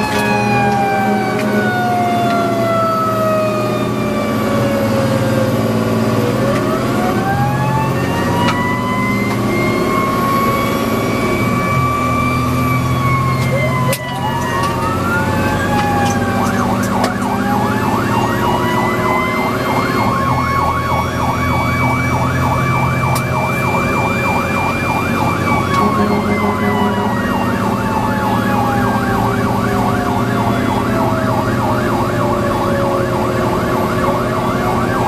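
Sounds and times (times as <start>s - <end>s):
diesel engine drone: 0.0s - 35.0s
siren fast yelp: 0.0s - 35.0s
siren slow wail: 0.0s - 35.0s.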